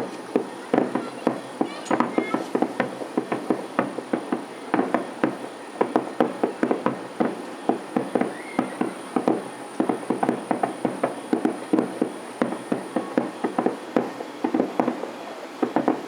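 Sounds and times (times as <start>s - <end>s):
distant fireworks bursting: 0.0s - 16.0s.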